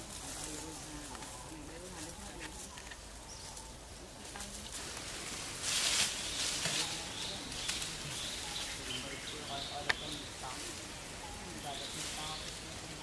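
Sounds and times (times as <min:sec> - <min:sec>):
faint background voices: 0:00.0 - 0:13.0
leaves and branches rustling: 0:00.0 - 0:13.0.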